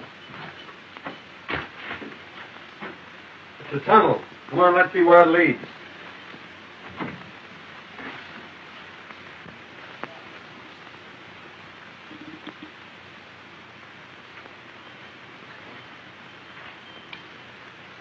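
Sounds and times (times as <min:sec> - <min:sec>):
film soundtrack hiss: 0:00.0 - 0:18.0.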